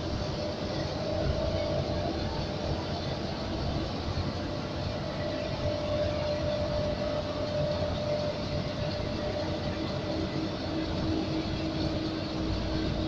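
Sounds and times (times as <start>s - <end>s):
furnace hum: 0.0s - 13.0s.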